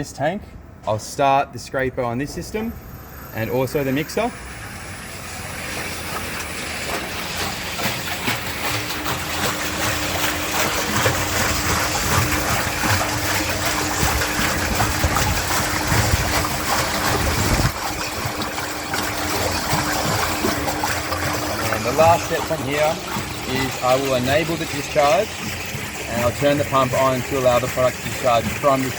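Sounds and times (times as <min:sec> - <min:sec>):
motor hum: 0:01.8 - 0:28.9
water churning and splashing: 0:02.0 - 0:28.9.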